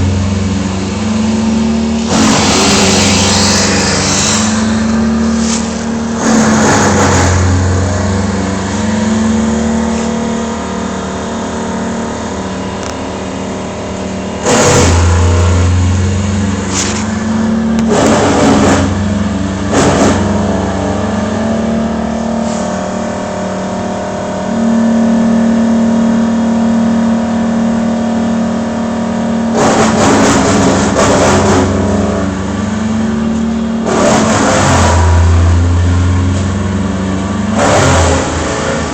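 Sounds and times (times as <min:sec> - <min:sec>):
bursts of rough noise: 0:00.0 - 0:23.2, 0:29.5 - 0:38.9
engine running steadily: 0:00.0 - 0:38.9.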